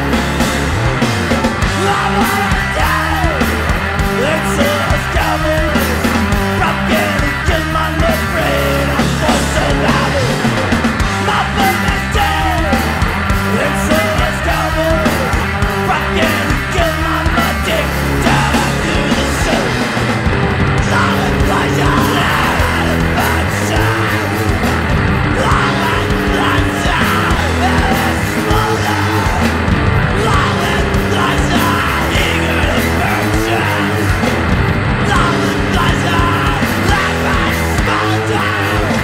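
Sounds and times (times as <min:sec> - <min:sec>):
punk band playing: 0:00.0 - 0:39.0
yelled vocals: 0:00.0 - 0:39.0.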